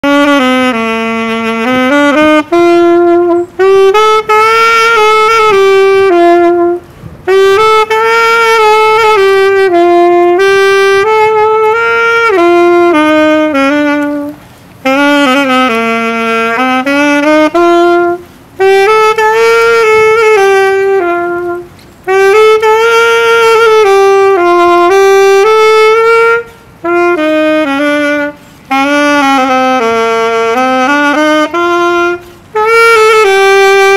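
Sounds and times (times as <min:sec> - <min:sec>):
solo saxophone melody: 0:00.0 - 0:33.9.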